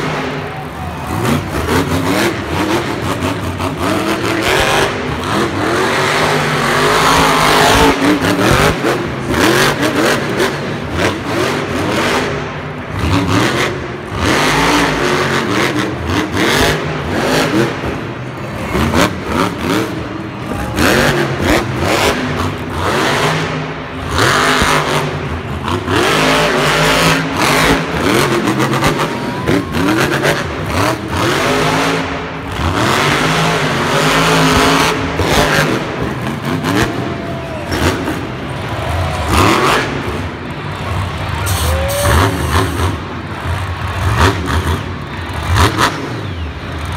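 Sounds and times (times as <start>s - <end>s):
truck engine revving hard: 0.0s - 46.9s.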